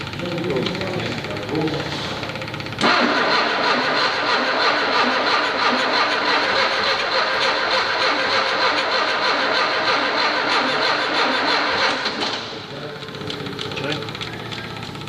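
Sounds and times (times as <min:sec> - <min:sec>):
engine cranking on starter motor: 0:00.0 - 0:15.0.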